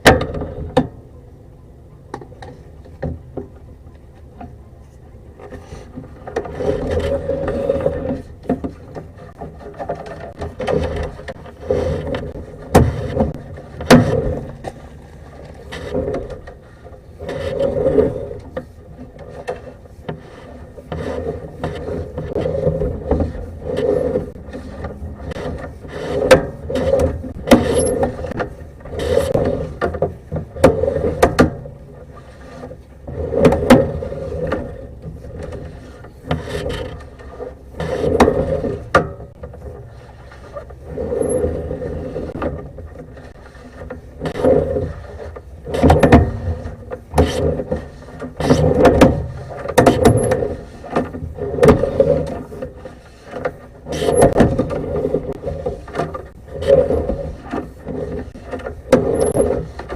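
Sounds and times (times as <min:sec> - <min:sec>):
cable scraping and rattling: 0:02.1 - 0:59.9.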